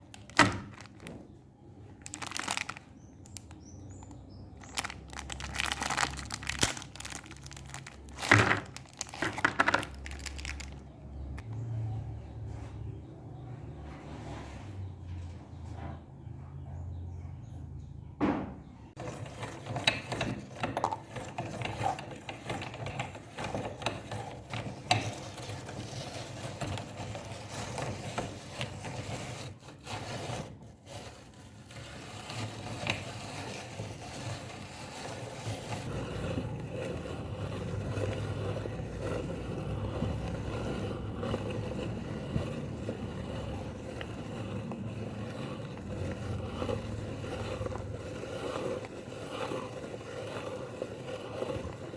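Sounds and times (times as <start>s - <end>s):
meat grinder crunching cookies: 0.0s - 1.2s, 2.0s - 11.4s, 19.0s - 51.9s.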